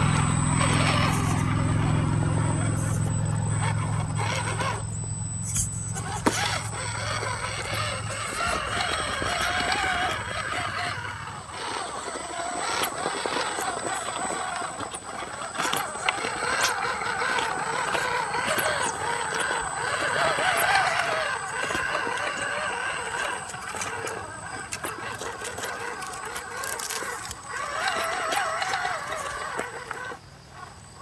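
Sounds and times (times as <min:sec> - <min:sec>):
electric motor and gears whining: 0:00.0 - 0:31.0
tyres scraping on rock: 0:00.6 - 0:31.0.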